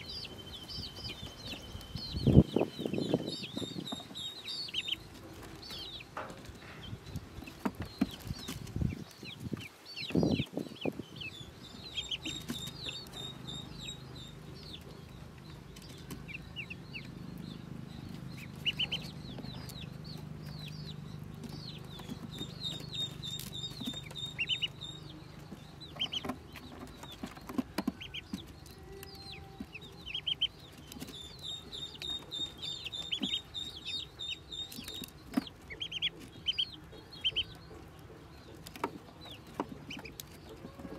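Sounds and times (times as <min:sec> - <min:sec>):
ducklings peeping: 0:00.0 - 0:40.9.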